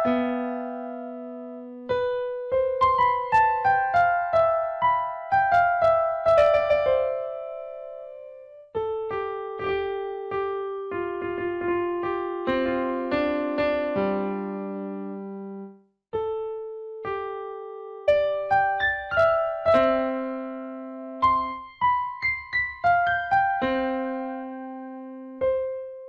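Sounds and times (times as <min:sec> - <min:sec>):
electric piano music: 0:00.0 - 0:26.0.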